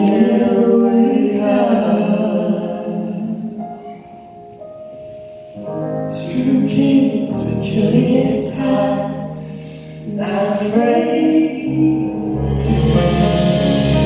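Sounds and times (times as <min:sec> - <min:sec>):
person singing: 0:00.0 - 0:03.7, 0:06.1 - 0:14.0
piano accompaniment: 0:00.0 - 0:14.0.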